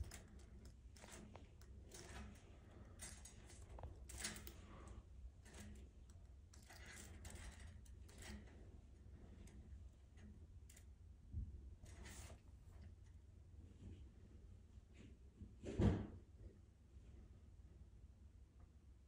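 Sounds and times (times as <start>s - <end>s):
low steady hum: 0.0s - 15.6s.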